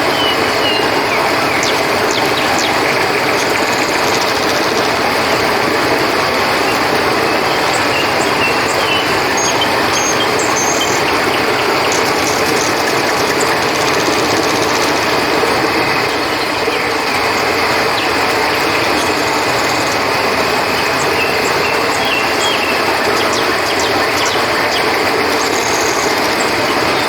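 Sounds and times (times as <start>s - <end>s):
crickets chirping: 0.0s - 27.0s
river water rushing: 0.0s - 27.0s.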